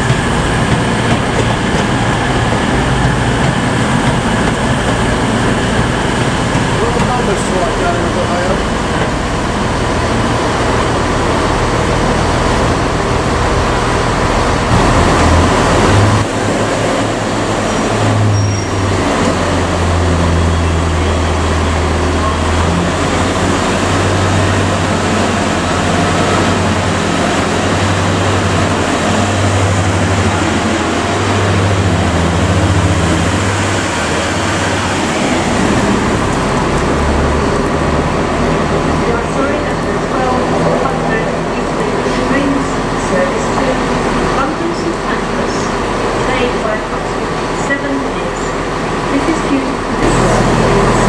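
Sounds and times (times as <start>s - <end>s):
low engine hum: 0.0s - 46.4s.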